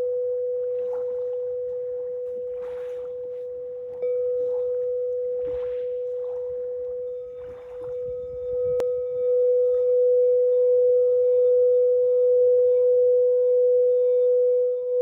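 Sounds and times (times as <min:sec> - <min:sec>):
sustained pure tone: 0:00.0 - 0:15.0.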